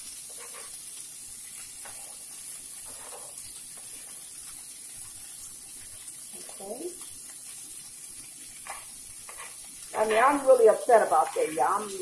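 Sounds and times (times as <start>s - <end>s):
meat and vegetables sizzling in pan: 0.0s - 12.0s.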